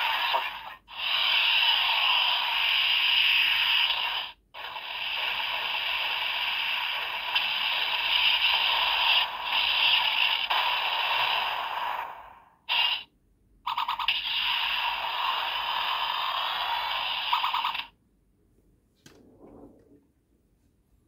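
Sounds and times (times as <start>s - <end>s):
toy speaker static hiss: 0.0s - 18.0s.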